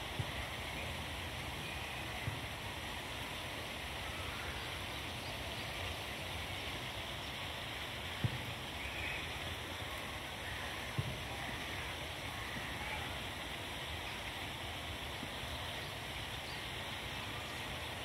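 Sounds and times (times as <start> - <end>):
rushing flowing water: 0.0 - 18.0.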